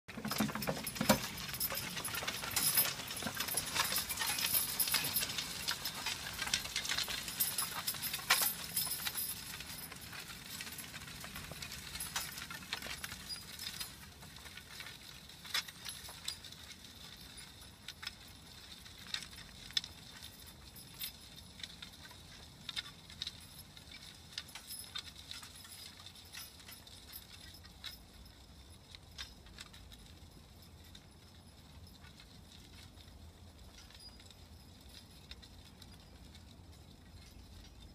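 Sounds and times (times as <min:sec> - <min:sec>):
harness jingling: 0:00.1 - 0:37.9
harrow clinking and rattling: 0:00.1 - 0:37.9.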